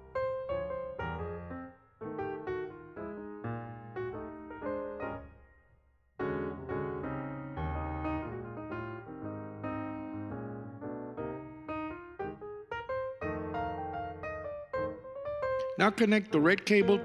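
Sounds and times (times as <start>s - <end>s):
piano music: 0.0s - 5.6s, 6.2s - 17.0s.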